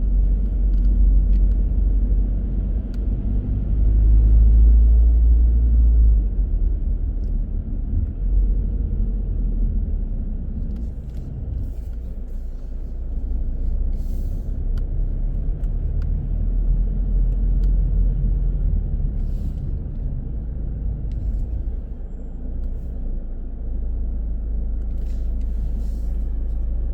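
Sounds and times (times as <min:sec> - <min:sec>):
car engine and road noise: 0:00.0 - 0:26.9.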